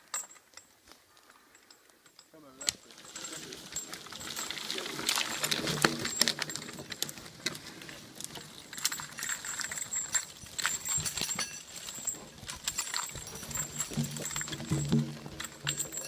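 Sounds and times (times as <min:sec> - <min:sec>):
chain and harness rattling: 0:00.0 - 0:16.0
hooves and log crackling over twigs: 0:00.0 - 0:16.0.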